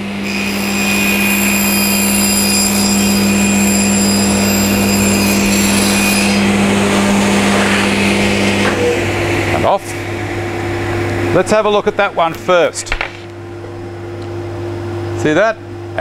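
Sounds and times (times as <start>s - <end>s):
table saw cutting board: 0.0s - 13.2s.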